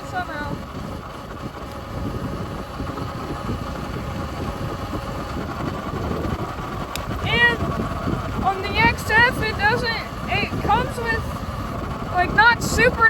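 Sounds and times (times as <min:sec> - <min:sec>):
electric motor and chain whine: 0:00.0 - 0:13.0
wind rumbling on microphone: 0:00.0 - 0:13.0.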